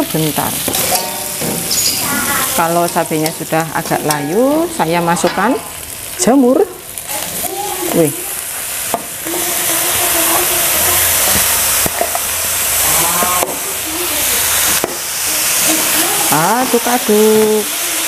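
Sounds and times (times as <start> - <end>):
mushrooms sizzling in hot oil: 0.0 - 18.0.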